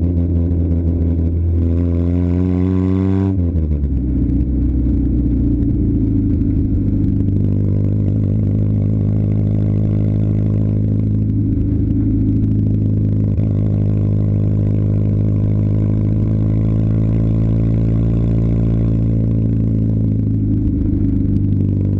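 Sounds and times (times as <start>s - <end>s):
car engine running: 0.0s - 21.9s.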